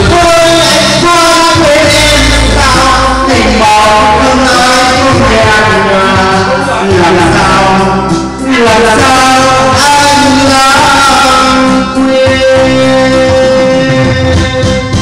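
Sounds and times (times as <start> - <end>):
guitar accompaniment: 0.0 - 15.0
person singing: 0.0 - 15.0.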